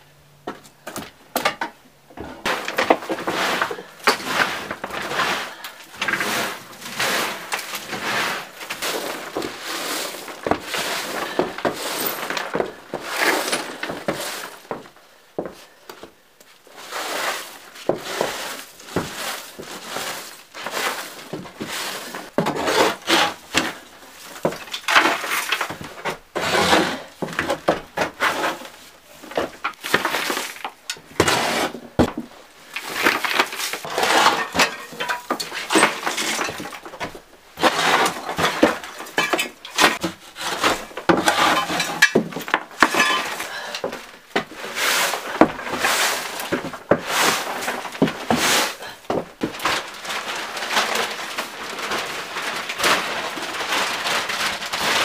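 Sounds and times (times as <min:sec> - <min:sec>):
twig broom sweeping wooden floor: 0:02.4 - 0:55.0.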